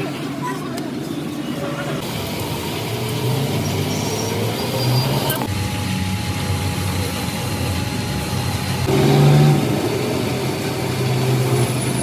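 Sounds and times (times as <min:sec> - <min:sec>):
engine running and revving: 0:02.0 - 0:12.0.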